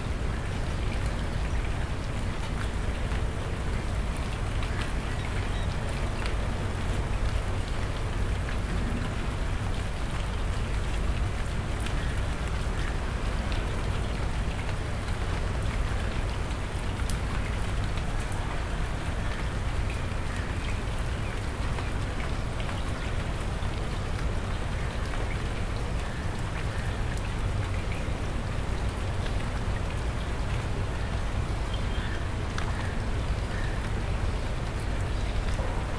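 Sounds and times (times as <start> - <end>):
rain pattering on concrete: 0.0 - 35.9.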